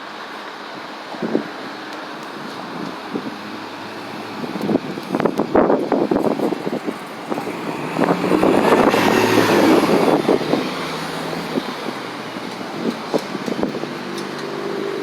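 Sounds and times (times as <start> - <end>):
bus driving past: 1.7 - 15.0.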